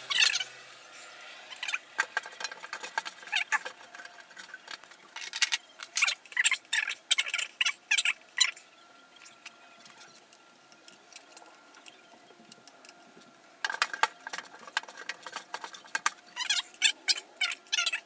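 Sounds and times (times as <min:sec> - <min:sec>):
hard drive parts clicking and scraping: 0:00.1 - 0:18.0.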